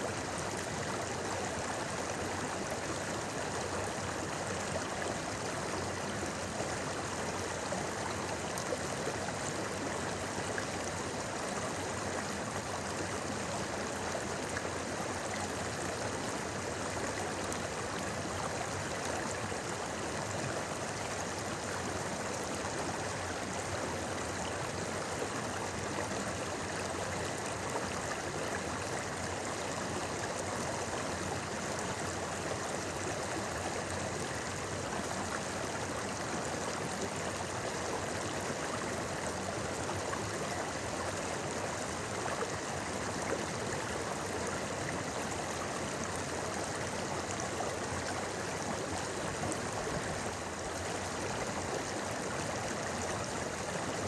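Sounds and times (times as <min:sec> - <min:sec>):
river babbling over stones: 0:00.1 - 0:54.0.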